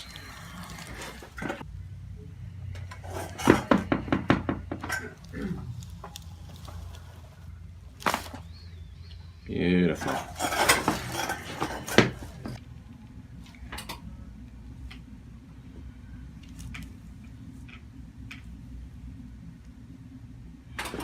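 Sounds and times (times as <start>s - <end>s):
low steady room hum: 0.0s - 21.0s.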